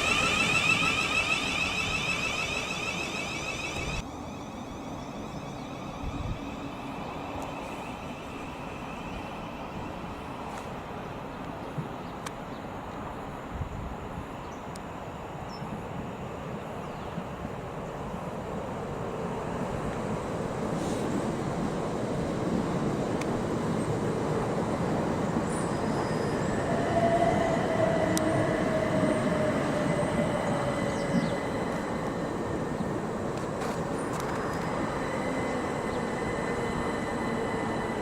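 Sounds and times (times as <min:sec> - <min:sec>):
faint train whine: 0:00.0 - 0:38.0
train rumbling along track: 0:00.0 - 0:38.0.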